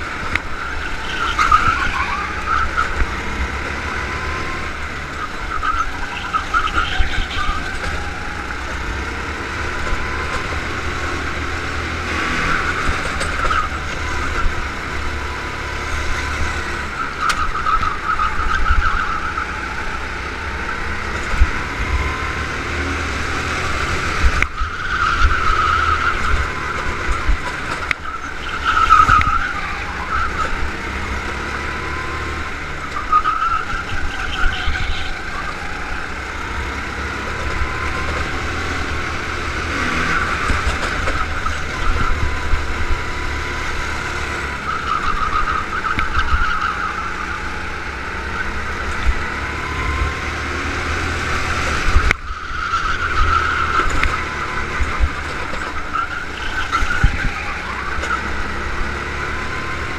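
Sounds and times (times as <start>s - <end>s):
go-kart engine running hard: 0.0s - 59.9s
tyres squealing: 0.0s - 59.9s.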